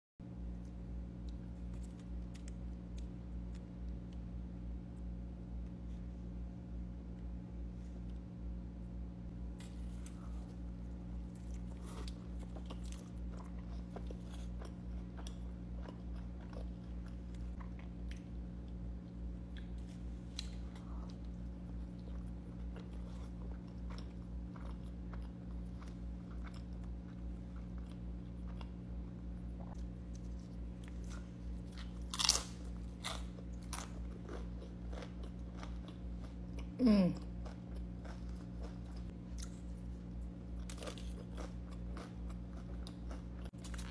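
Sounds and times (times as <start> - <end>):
steady low hum: 0.2 - 43.9
chewing and biting food: 0.6 - 4.2, 9.6 - 43.9.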